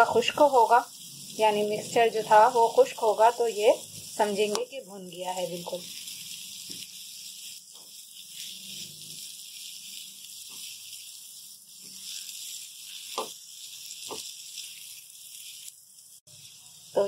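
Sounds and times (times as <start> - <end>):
food sizzling in a steel pan: 0.0 - 17.0
spatula scraping a pan: 0.0 - 17.0.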